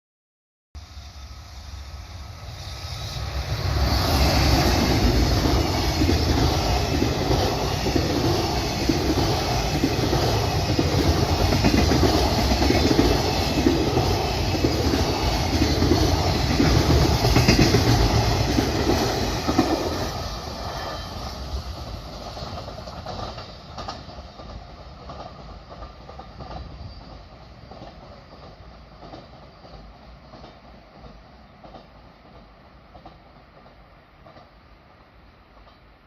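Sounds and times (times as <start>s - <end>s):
freight train passing on rails: 0.8s - 36.0s.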